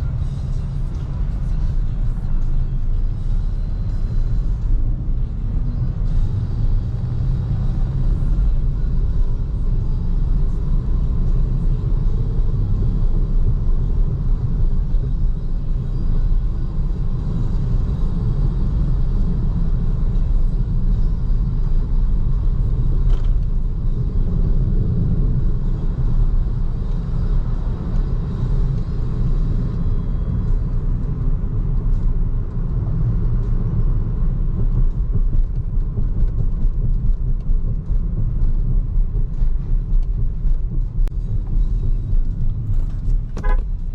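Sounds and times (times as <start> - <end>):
tyre and road noise: 0.0 - 43.9.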